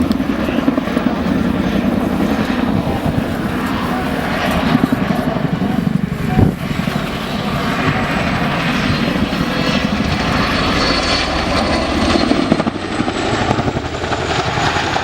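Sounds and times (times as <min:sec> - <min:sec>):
helicopter rotor blades beating: 0:00.0 - 0:15.0.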